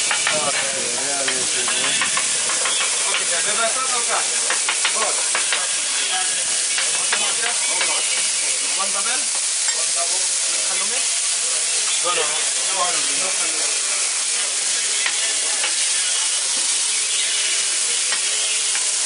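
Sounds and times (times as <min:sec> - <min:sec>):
food sizzling on hot surface: 0:00.0 - 0:19.0
market chatter: 0:00.0 - 0:19.0.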